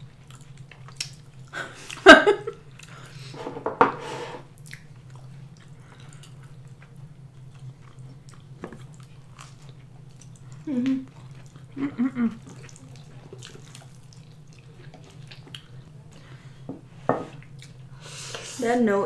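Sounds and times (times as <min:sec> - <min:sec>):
chewing and wet mouth noises: 0:00.0 - 0:03.2, 0:04.6 - 0:16.4, 0:17.4 - 0:18.0
steady low hum: 0:00.0 - 0:19.0.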